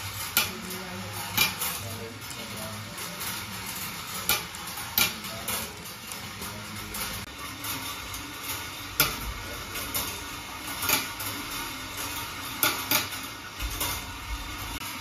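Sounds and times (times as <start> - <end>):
marbles rattling on wire rails: 0.0 - 15.0.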